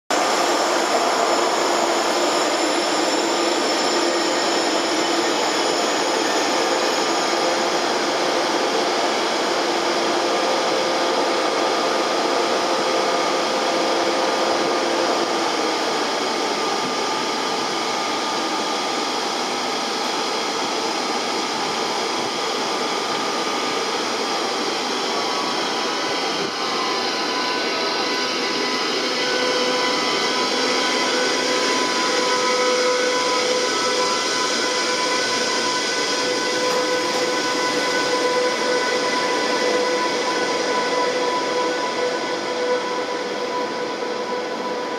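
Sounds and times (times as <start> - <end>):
traction converter whine: 0.1 - 44.9.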